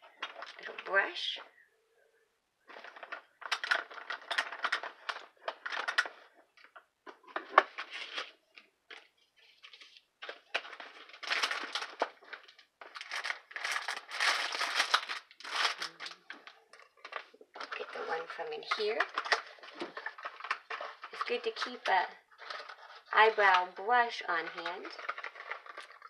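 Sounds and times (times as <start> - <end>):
items shifting and knocking: 0.0 - 0.9, 2.6 - 23.6, 24.5 - 26.0
plastic pouch crinkling: 2.7 - 23.6, 24.4 - 26.0.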